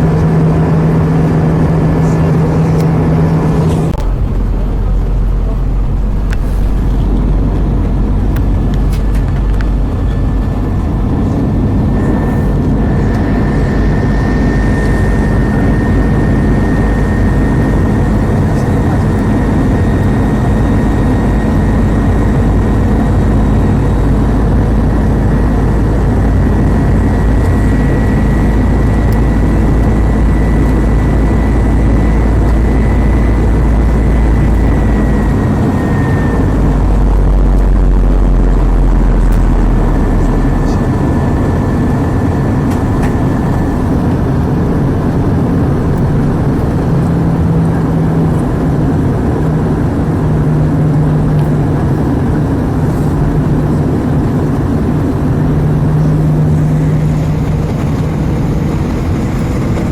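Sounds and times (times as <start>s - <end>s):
jet engine cabin rush: 0.0s - 59.9s
thin whine: 0.0s - 59.9s.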